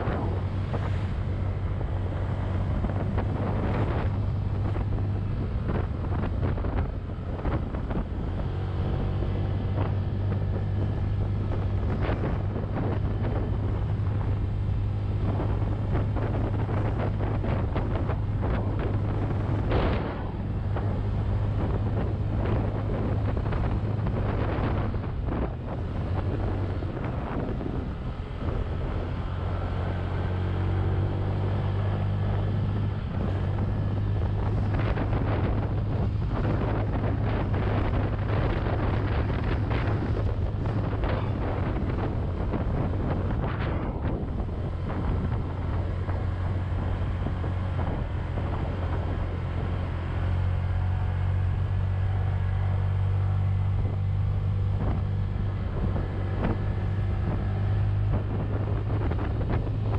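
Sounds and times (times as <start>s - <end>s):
scooter engine droning: 0.0s - 59.9s
wind buffeting microphone: 0.0s - 59.9s.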